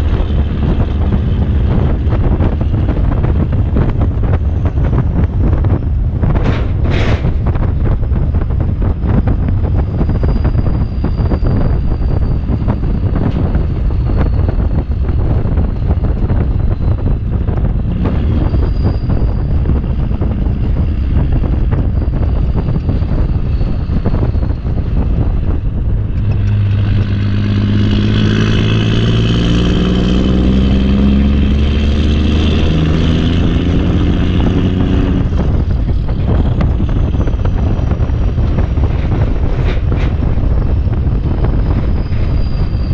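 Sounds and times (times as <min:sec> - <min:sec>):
backhoe engine running: 0:00.0 - 0:42.9
wind buffeting microphone: 0:00.0 - 0:42.9.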